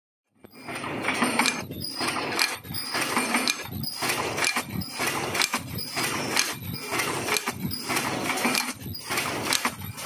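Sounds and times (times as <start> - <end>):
welding machine clicking and clattering: 0.4 - 10.0.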